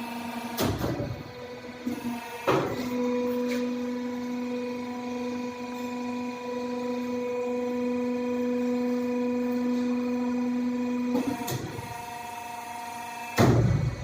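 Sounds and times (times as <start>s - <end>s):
pipe bending machine hum: 0.0s - 14.0s.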